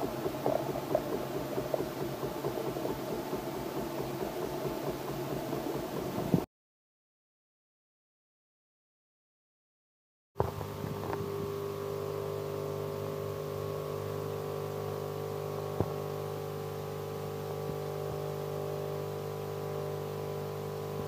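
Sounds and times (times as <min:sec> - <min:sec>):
coffee machine humming: 0:00.0 - 0:06.5, 0:10.4 - 0:21.0.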